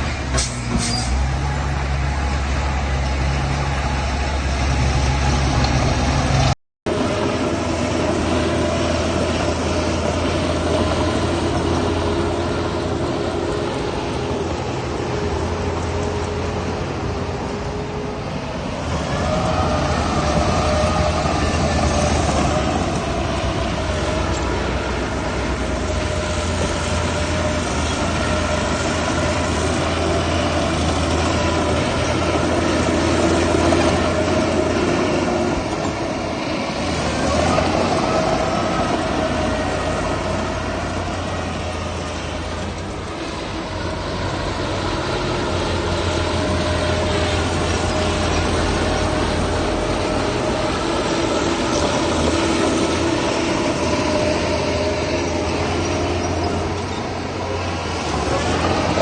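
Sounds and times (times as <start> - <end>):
heavy machinery engine drone: 0.0 - 59.0
machinery whining: 0.0 - 59.0.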